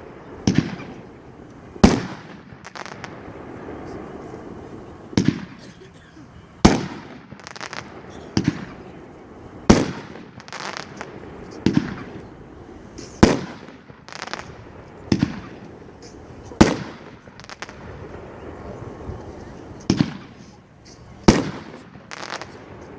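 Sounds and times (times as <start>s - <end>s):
firework crackling pops: 0.0s - 6.0s, 6.6s - 22.9s
firework reports echoing: 0.0s - 22.9s.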